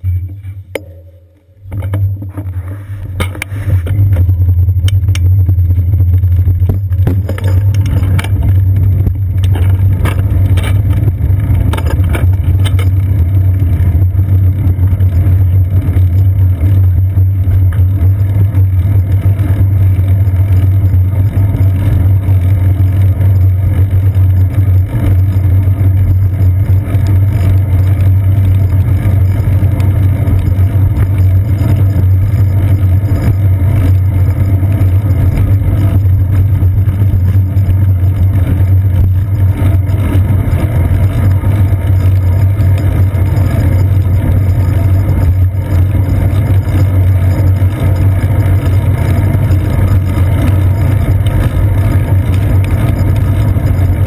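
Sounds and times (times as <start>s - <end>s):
bicycle rumbling over wet pavement: 1.6s - 54.0s.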